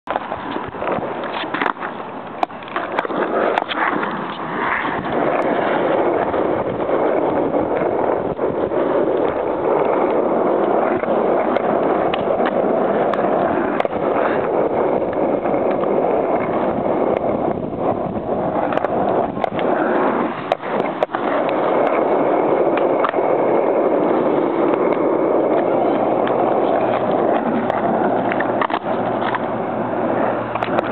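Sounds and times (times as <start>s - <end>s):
skateboard clacks: 0.0s - 30.9s
skateboard wheels rolling on asphalt: 0.0s - 30.9s.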